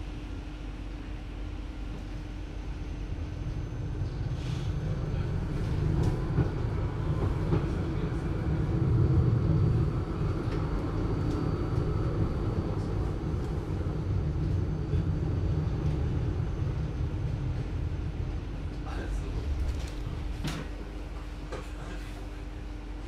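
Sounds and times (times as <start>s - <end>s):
tram low rumble: 0.0s - 23.0s.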